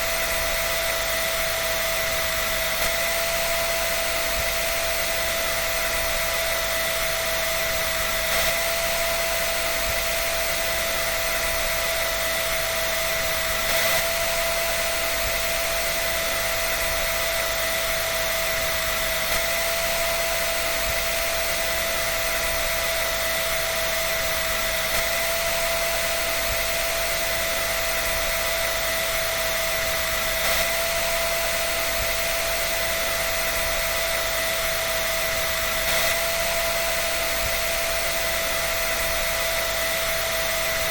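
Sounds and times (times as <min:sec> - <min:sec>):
dryer running with air rush: 0:00.0 - 0:40.9.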